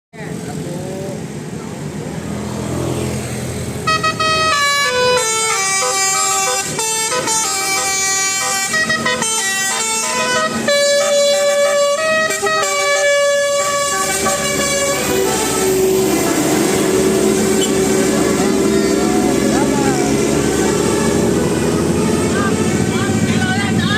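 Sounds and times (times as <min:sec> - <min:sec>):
vehicle engine running: 0:00.2 - 0:23.9
multi-tone bus air horn tune: 0:03.8 - 0:23.9.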